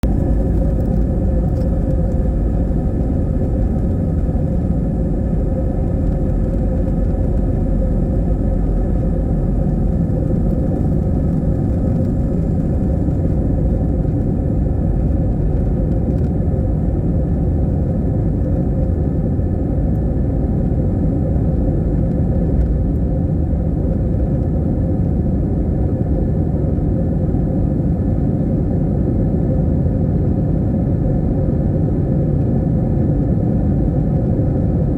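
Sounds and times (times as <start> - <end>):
airliner cabin rumble in flight: 0.0 - 34.9.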